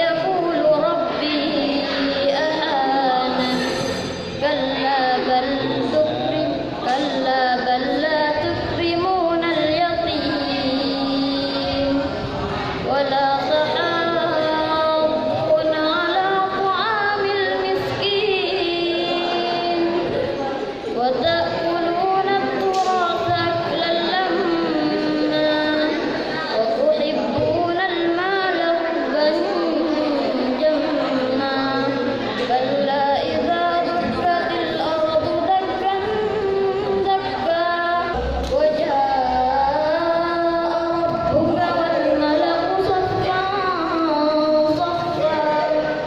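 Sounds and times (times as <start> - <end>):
girl chanting recitation: 0.0 - 46.0.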